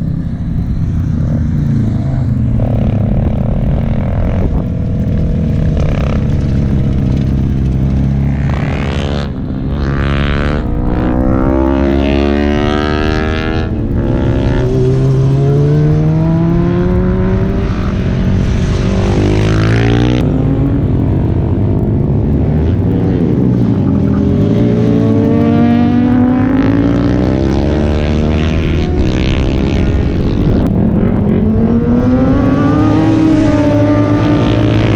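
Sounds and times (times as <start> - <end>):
motorcycles racing at high revs: 0.0 - 34.9.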